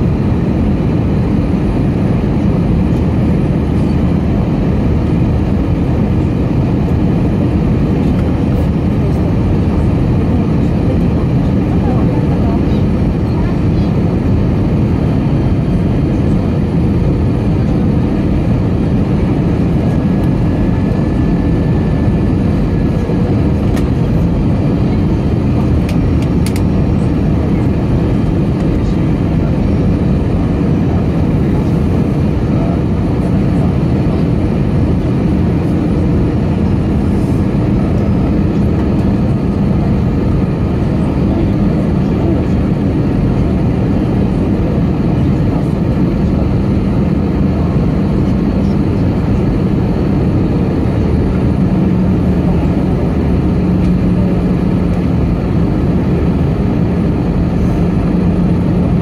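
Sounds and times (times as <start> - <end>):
airliner cabin air rush roar: 0.0 - 59.0
turbofan engine: 0.0 - 59.0.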